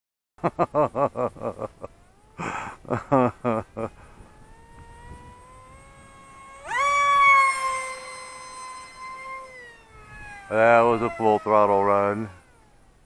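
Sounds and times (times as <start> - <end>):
electric motor propeller whine: 0.4 - 13.0.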